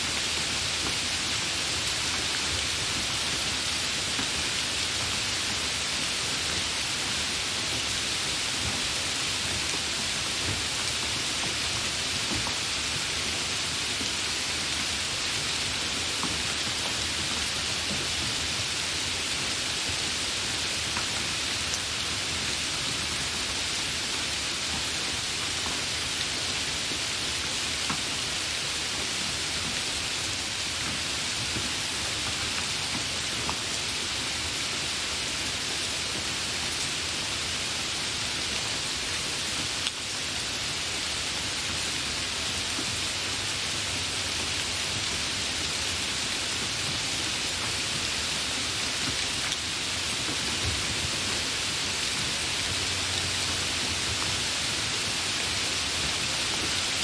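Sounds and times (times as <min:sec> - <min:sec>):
hard rain hissing: 0:00.0 - 0:57.0.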